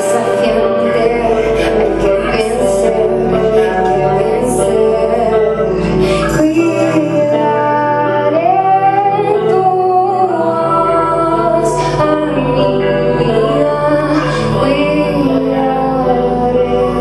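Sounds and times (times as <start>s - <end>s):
bass line: 0.0s - 17.0s
woman singing long held notes: 0.0s - 17.0s.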